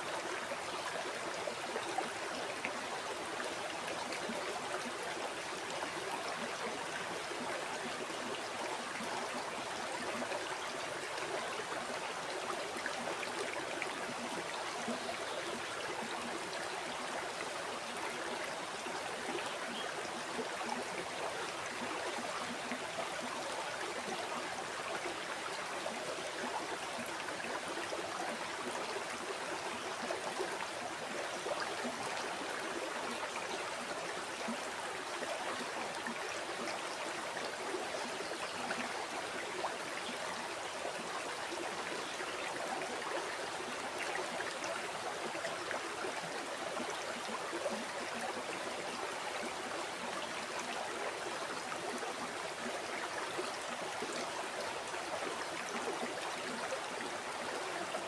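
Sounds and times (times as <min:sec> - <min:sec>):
river water rushing and babbling: 0:00.0 - 0:58.0.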